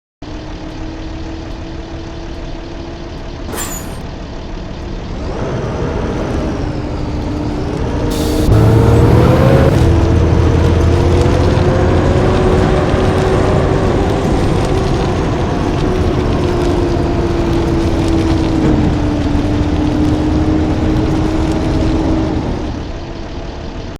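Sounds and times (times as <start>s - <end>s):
bus engine rumbling: 0.5s - 23.0s.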